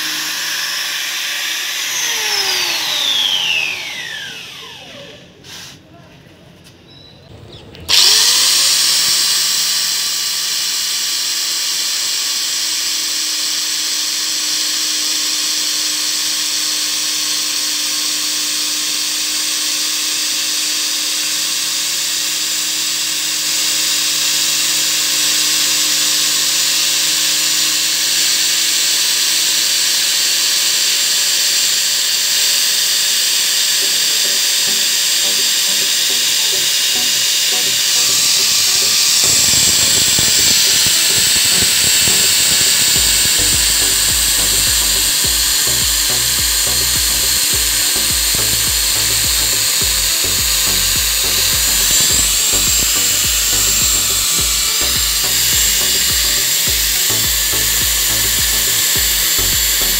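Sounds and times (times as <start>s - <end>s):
angle grinder cutting plastic: 0.0s - 5.8s, 7.7s - 59.9s.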